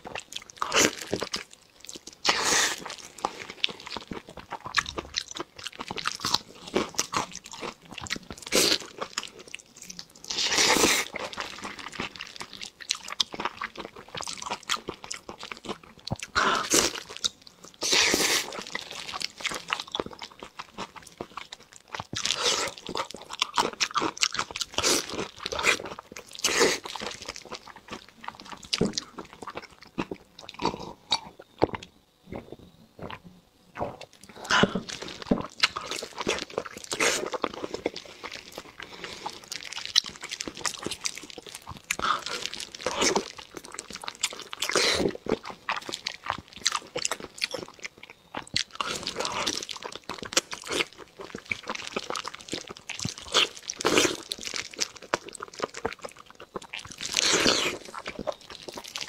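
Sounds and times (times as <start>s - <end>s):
person chewing meat wetly: 0.0s - 59.0s.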